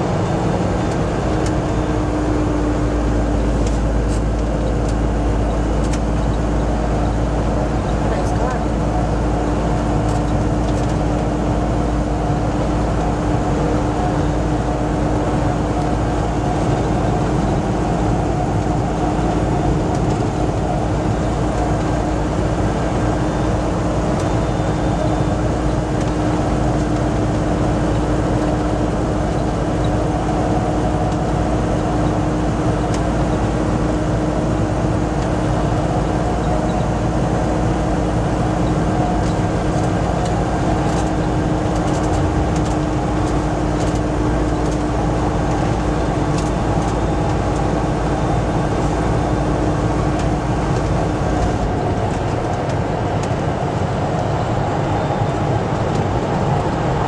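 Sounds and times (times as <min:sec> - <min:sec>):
diesel engine drone: 0:00.0 - 0:57.0
tyre and road noise: 0:00.0 - 0:57.0.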